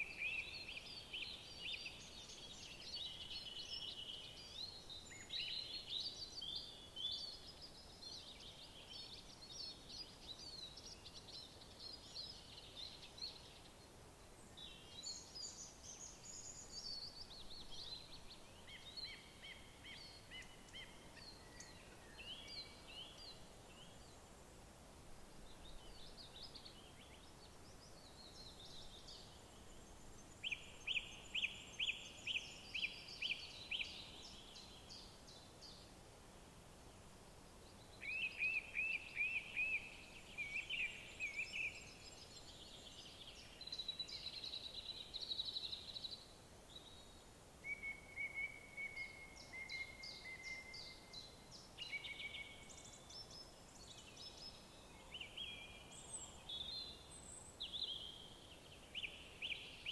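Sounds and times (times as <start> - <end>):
songbirds singing: 0.0 - 24.4, 25.4 - 36.0, 36.8 - 59.9
faint outdoor hiss: 0.0 - 59.9.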